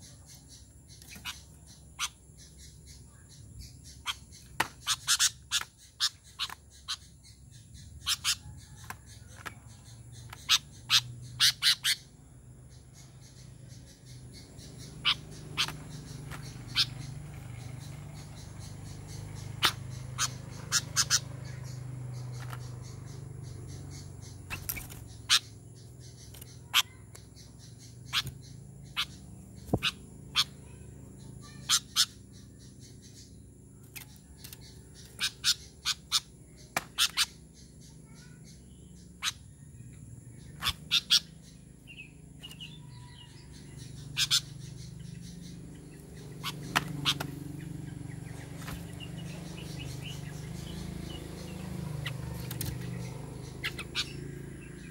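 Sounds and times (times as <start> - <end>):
bird chip calls: 0.0 - 54.9.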